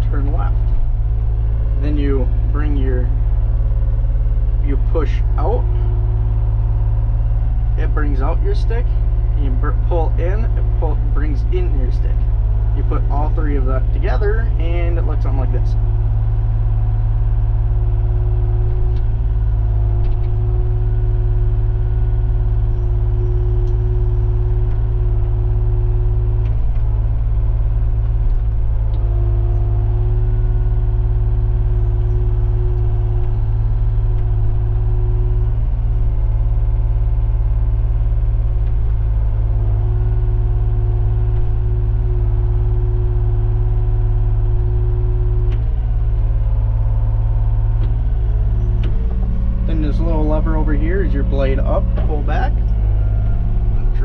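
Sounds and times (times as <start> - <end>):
excavator diesel engine running: 0.0 - 54.0
high steady machine whine: 0.0 - 54.0.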